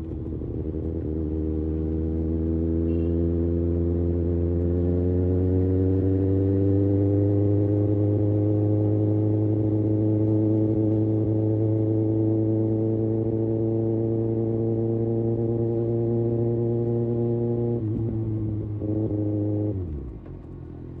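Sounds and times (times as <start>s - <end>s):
motorcycle engine and exhaust: 0.0s - 21.0s.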